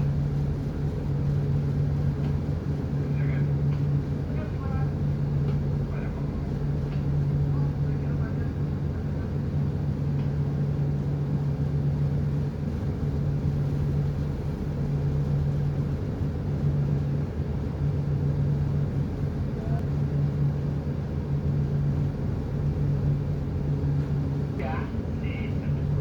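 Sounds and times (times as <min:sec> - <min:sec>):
ship engine droning: 0:00.0 - 0:26.0.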